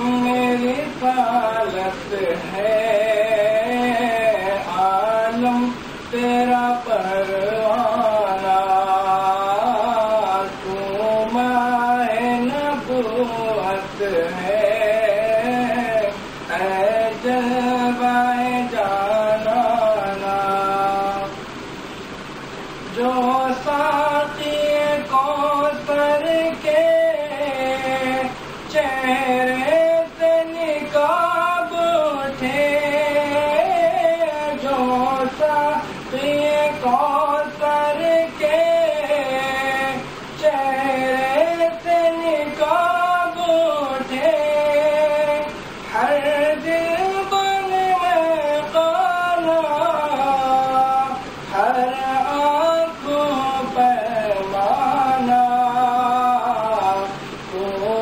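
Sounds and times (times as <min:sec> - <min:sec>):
man singing unaccompanied: 0:00.0 - 0:58.0.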